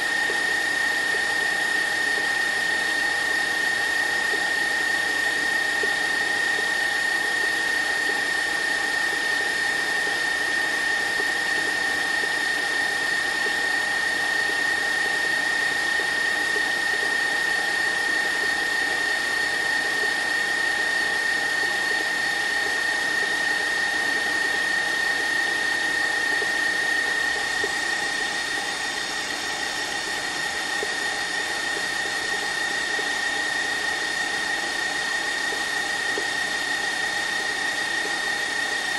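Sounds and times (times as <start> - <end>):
stand mixer motor whining: 0.0 - 38.9.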